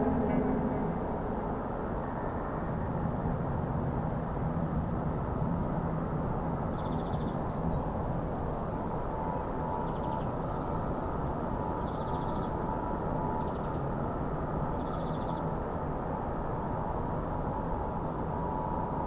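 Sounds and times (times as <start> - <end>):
dark ambient drone: 0.0 - 19.0.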